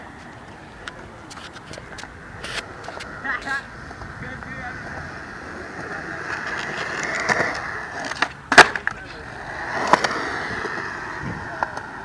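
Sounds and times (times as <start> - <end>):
skateboard wheels rolling on concrete: 0.0 - 12.0
skateboard clacking on ground: 0.1 - 12.0.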